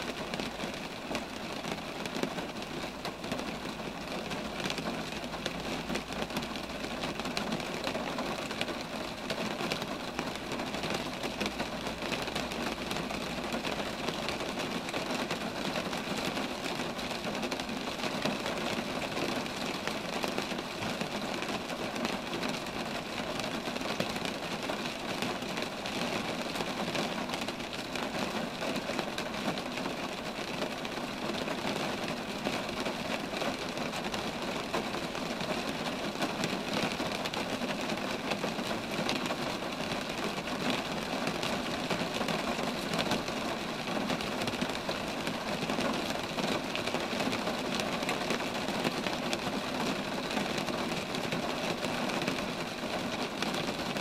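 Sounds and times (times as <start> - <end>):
rain pattering on trees: 0.0 - 54.0.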